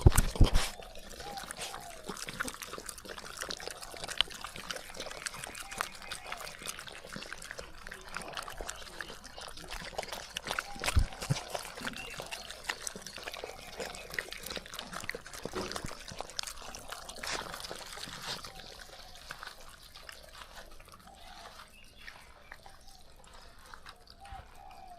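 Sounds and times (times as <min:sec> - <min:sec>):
dog eating crunching: 0:00.0 - 0:24.9.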